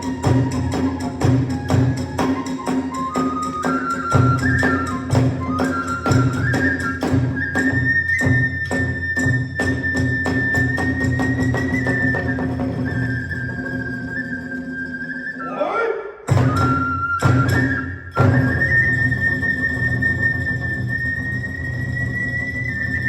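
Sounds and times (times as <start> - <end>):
rapid drumbeats: 0.0 - 14.4, 16.3 - 23.0
bamboo flute melody: 0.0 - 23.0.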